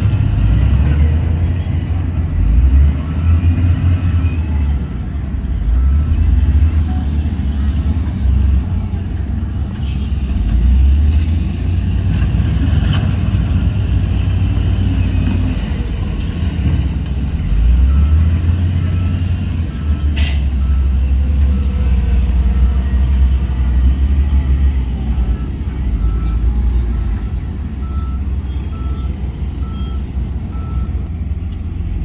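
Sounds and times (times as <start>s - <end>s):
heavy diesel machinery rumble: 0.0s - 32.0s.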